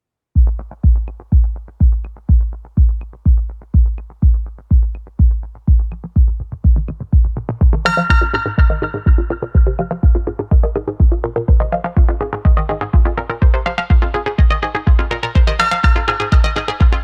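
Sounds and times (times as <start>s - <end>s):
electronic dance music: 0.4s - 17.0s
steady kick drum: 0.4s - 17.0s
synth chords: 0.4s - 17.0s.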